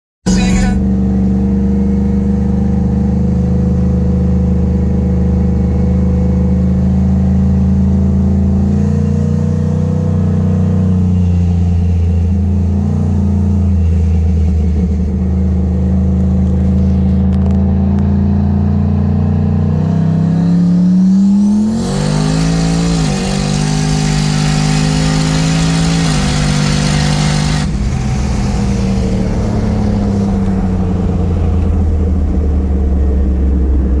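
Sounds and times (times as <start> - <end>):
car engine revving: 0.3 - 34.0.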